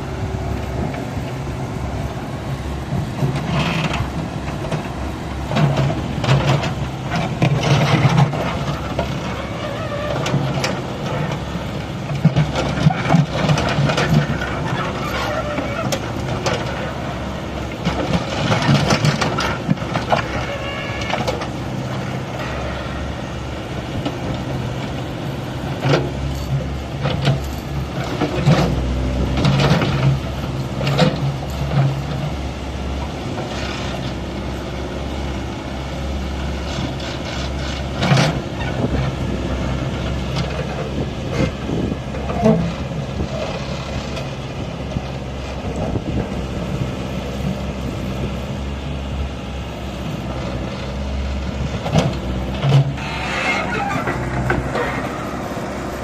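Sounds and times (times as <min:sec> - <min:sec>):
digger diesel engine running: 0:00.0 - 0:56.0.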